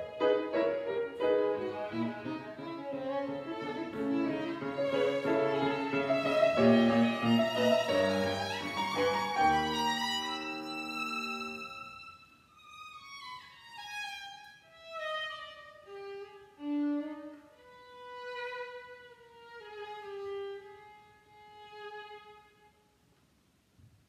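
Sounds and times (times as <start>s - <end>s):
violin playing slow melody: 0.0s - 22.8s.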